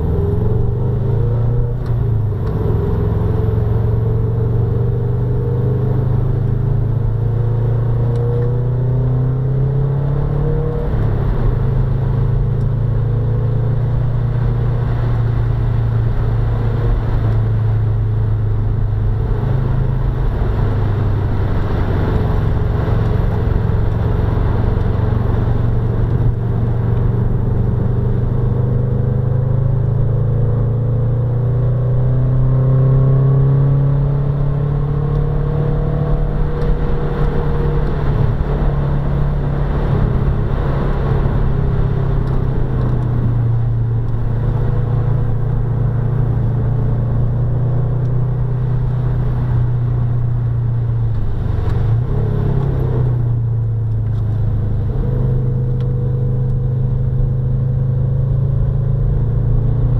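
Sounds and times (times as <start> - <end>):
car engine running hard: 0.0 - 59.9.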